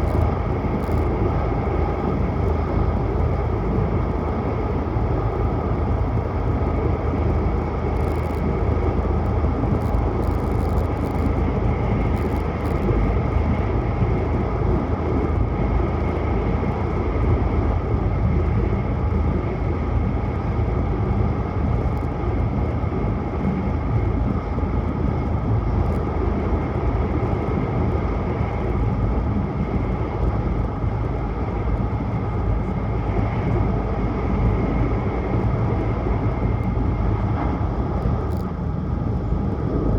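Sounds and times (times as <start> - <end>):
faint steady whine: 0.0 - 39.9.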